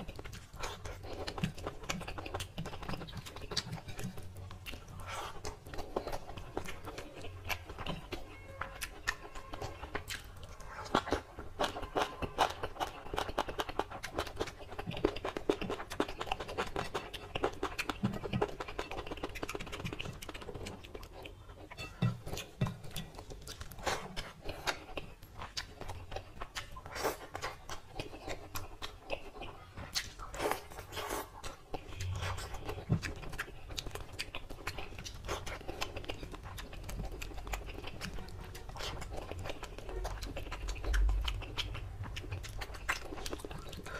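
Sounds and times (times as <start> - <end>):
close chewing with wet clicks: 0.0 - 43.9.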